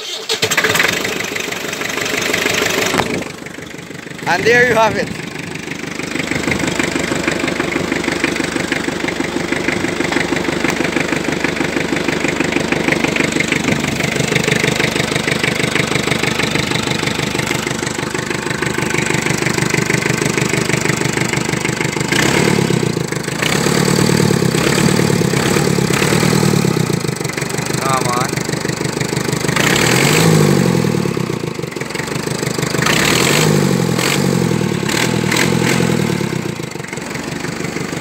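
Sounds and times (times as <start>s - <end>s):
tractor engine idling: 0.0s - 38.0s.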